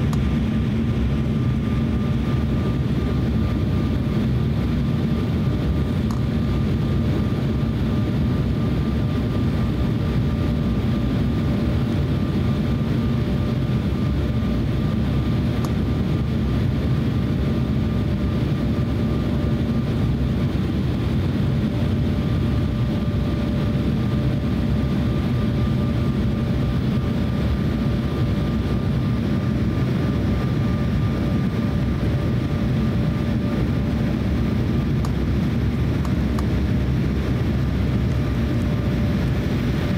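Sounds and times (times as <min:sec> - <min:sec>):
airliner cabin rumble: 0:00.0 - 0:39.9
faint steady whine: 0:00.0 - 0:39.9.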